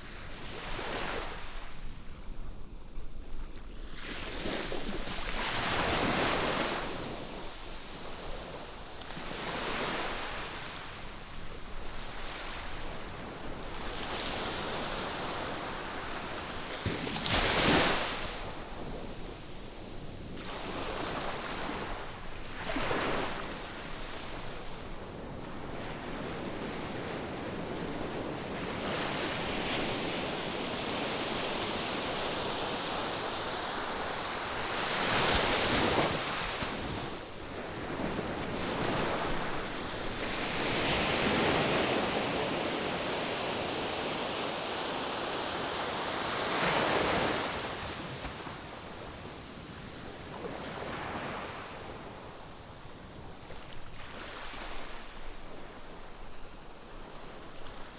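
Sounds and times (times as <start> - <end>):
waves breaking on sandy beach: 3.7 - 57.9.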